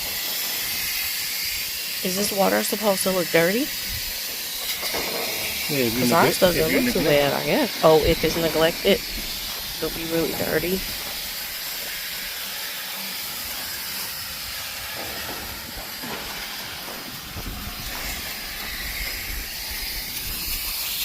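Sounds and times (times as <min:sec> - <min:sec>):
water spray hissing: 0:00.0 - 0:21.0.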